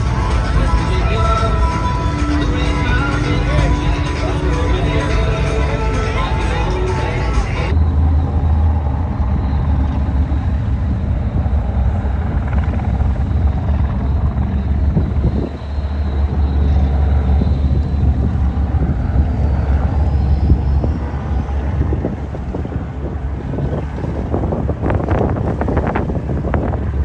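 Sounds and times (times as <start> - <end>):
powerful engine rumbling: 0.0 - 27.0.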